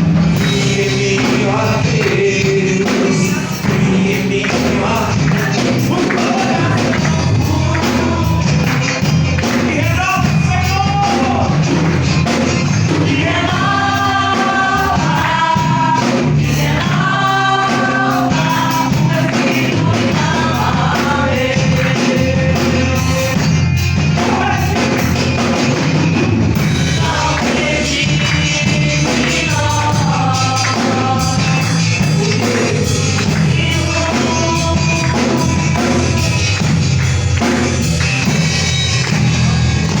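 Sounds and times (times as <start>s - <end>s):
driving drum beat: 0.0s - 40.0s
voices singing together: 0.3s - 11.7s, 12.3s - 25.7s, 26.6s - 36.8s.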